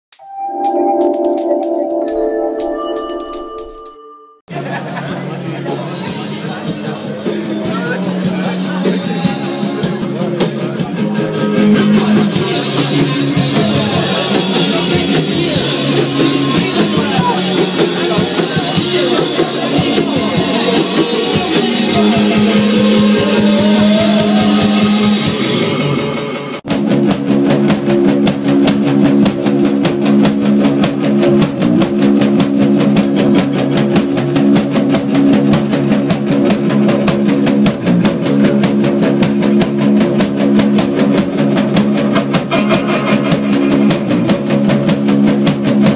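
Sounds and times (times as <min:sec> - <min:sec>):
drum kit: 0:00.1 - 0:45.9
electric guitar: 0:00.2 - 0:05.1, 0:05.7 - 0:45.9.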